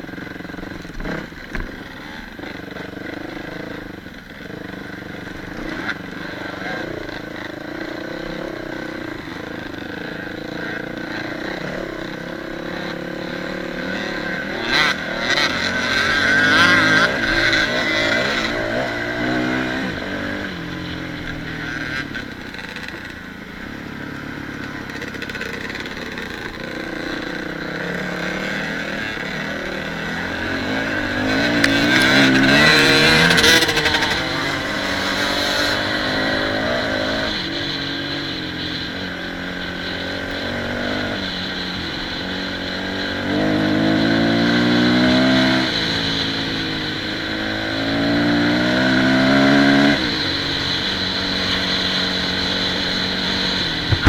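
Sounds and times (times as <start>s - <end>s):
dirt bike engine revving: 0.1s - 54.0s.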